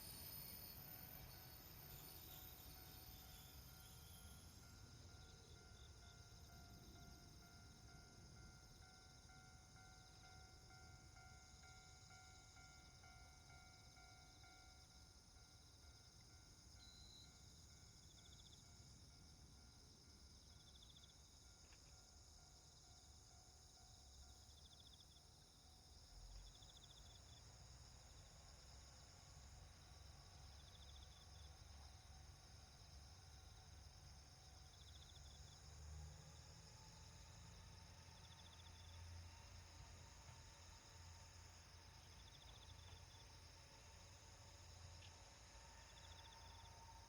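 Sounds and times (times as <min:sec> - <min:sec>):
short pulsed insect calls: 0:00.0 - 0:22.8, 0:23.9 - 0:47.0.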